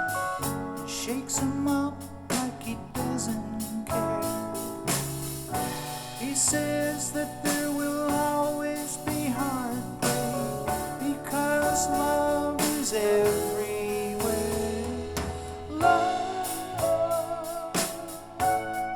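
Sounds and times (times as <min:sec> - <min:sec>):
pop song over loudspeakers: 0:00.0 - 0:18.9.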